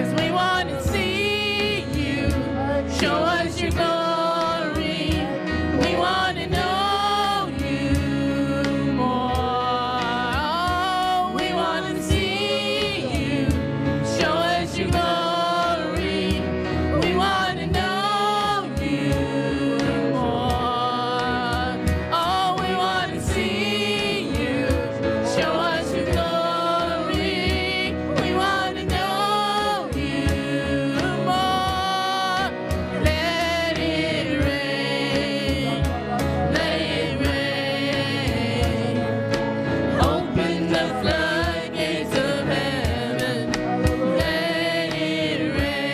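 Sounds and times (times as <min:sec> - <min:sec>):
band playing: 0:00.0 - 0:45.9
congregation singing: 0:00.0 - 0:45.9.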